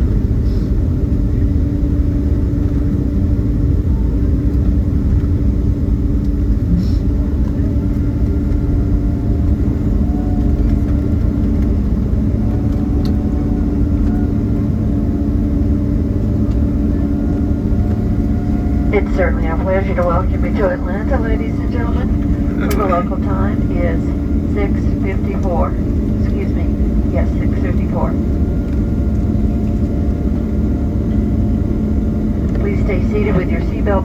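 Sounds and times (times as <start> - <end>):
airplane cabin rumble: 0.0 - 34.0
engine hum: 0.0 - 34.0
faint whines: 6.2 - 34.0.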